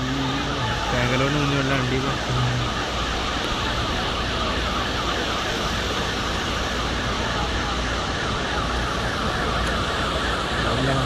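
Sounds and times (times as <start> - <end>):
distant siren yelping: 0.0 - 11.0
steady rushing noise: 0.0 - 11.0.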